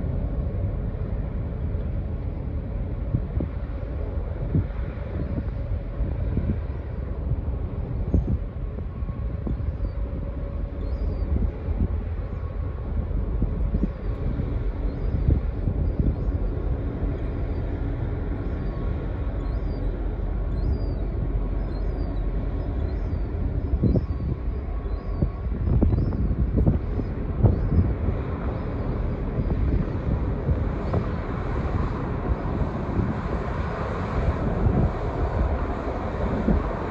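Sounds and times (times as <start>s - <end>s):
ship engines rumbling: 0.0s - 36.9s
wind buffeting microphone: 0.0s - 36.9s.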